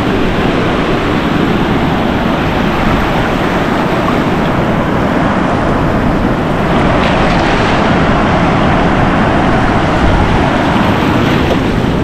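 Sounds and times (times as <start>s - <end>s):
surf washing over sand: 0.0s - 12.0s
wind buffeting microphone: 0.0s - 12.0s.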